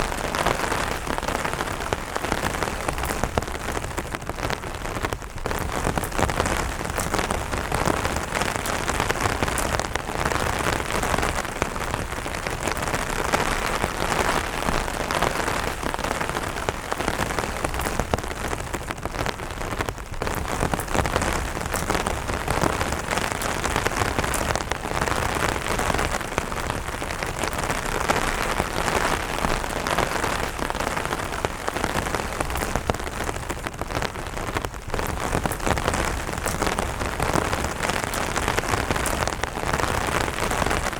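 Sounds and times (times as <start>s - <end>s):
rain falling on an umbrella: 0.0s - 40.9s.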